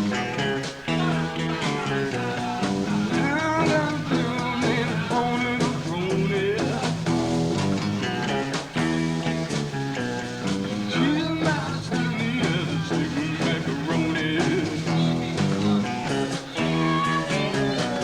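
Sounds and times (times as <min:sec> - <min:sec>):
bass guitar: 0:00.0 - 0:18.0
electric guitars: 0:00.0 - 0:18.0
steady drum beat: 0:00.0 - 0:18.0.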